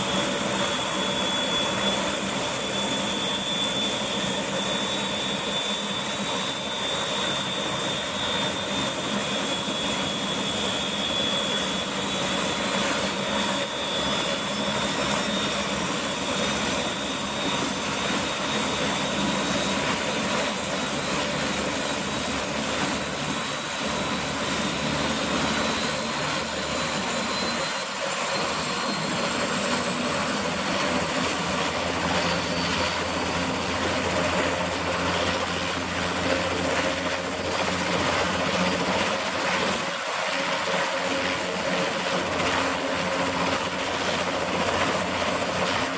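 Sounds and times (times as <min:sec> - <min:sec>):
helicopter turbine whine: 0:00.0 - 0:45.9.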